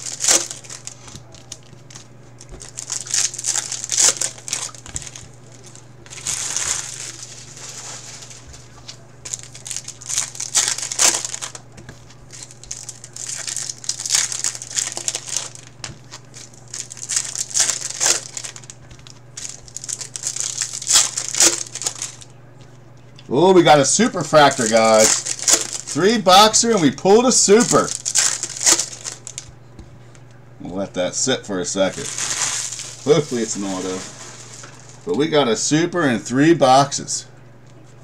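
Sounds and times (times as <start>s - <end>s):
cards being handled: 0.0s - 22.3s, 24.0s - 26.1s, 26.8s - 29.9s, 31.9s - 35.1s
plastic wrappers crinkling: 0.0s - 22.3s, 23.2s - 30.3s, 31.8s - 35.2s.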